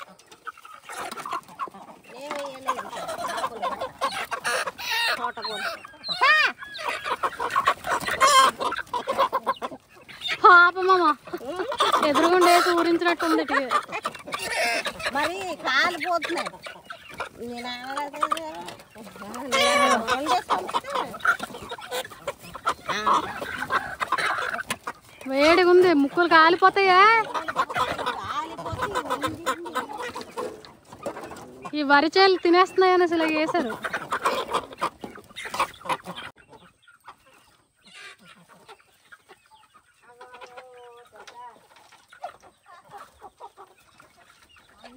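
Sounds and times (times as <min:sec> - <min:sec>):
chickens clucking and calling: 0:00.0 - 0:44.9.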